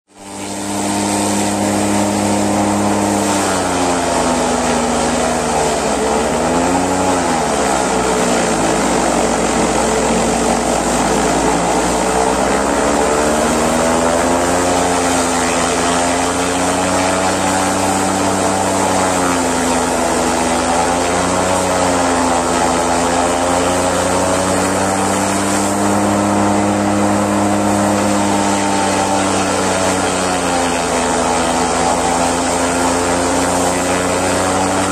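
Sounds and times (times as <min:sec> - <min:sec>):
chopper hissing: 0:00.2 - 0:34.9
tractor engine working: 0:00.2 - 0:34.9.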